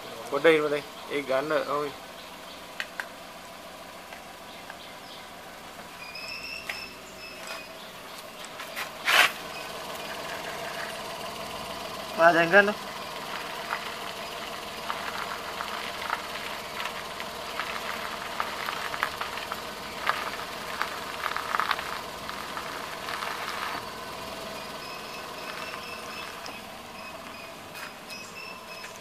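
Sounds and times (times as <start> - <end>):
van engine idling: 0.0 - 29.0.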